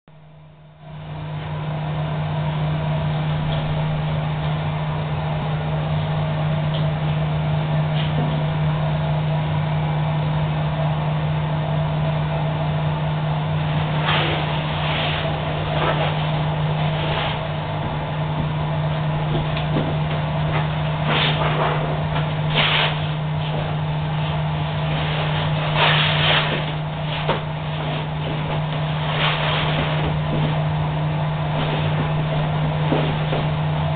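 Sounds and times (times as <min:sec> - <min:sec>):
welding machine humming: 0:00.2 - 0:33.9.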